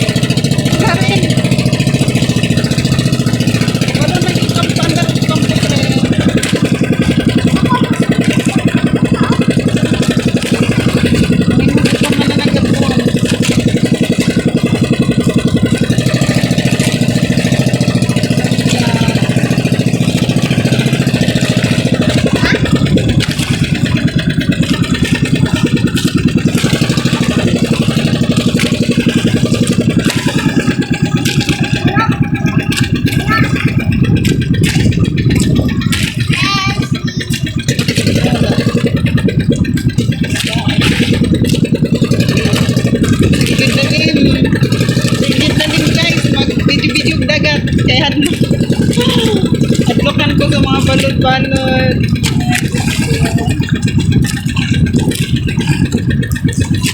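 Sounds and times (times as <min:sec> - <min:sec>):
boat engine putter: 0:00.0 - 0:56.9.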